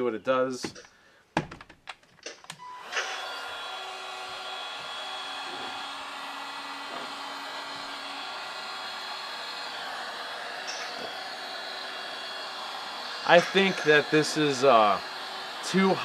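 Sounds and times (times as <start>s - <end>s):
heat gun fan whine: 2.6s - 16.0s.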